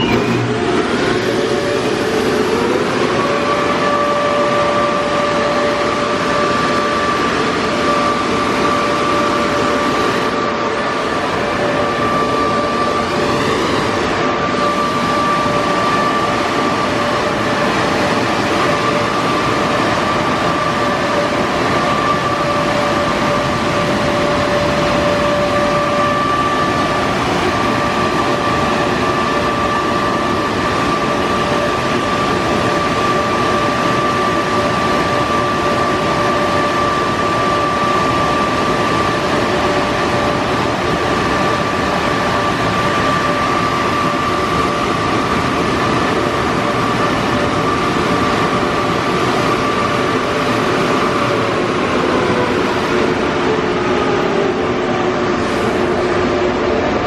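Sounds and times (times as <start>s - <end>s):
air dryer blowers rushing: 0.0s - 57.0s.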